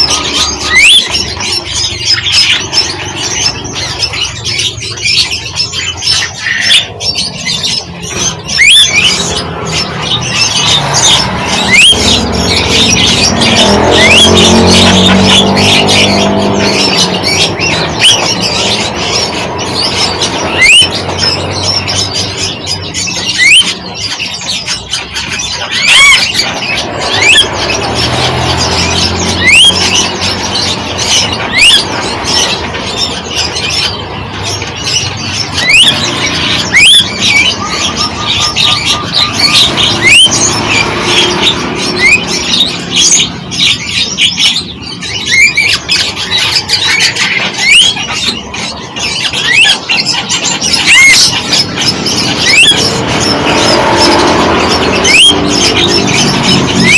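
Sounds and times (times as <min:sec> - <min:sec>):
birds chirping and squawking: 0:00.0 - 0:56.9.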